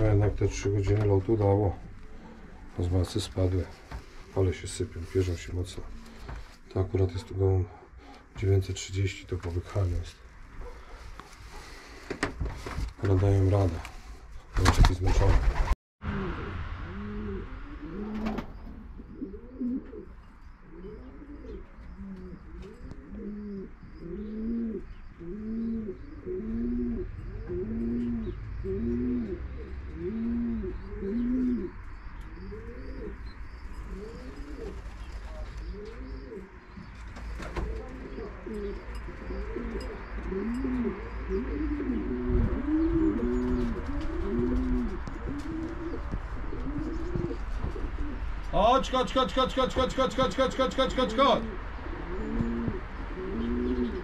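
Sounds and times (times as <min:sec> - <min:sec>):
pigeons cooing: 0:00.0 - 0:12.3, 0:14.9 - 0:48.5, 0:49.6 - 0:54.0.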